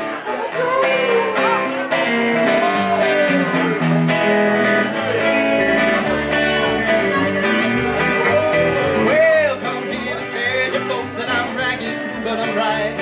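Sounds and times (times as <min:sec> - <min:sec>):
acoustic guitar: 0:00.0 - 0:13.0
electric guitar: 0:00.0 - 0:13.0
upright bass: 0:00.0 - 0:13.0.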